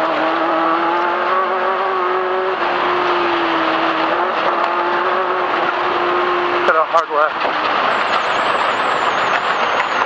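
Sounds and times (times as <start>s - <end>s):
race car engine running: 0.0s - 10.0s
road noise rush: 0.0s - 10.0s.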